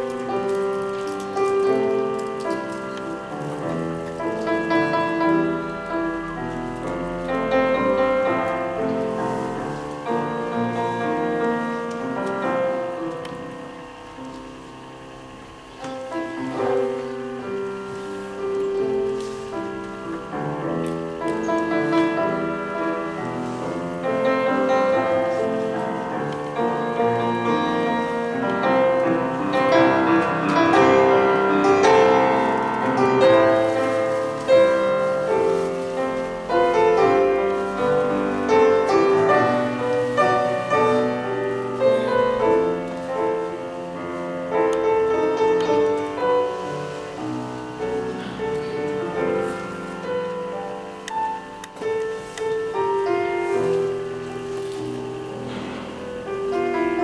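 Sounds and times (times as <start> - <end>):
solo grand piano: 0.0 - 57.0.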